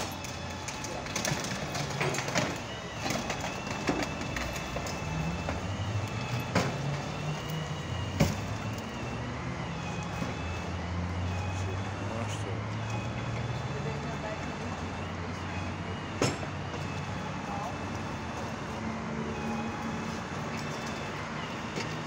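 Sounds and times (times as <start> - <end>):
street traffic: 0.0 - 22.0
vehicle engine running: 0.0 - 22.0.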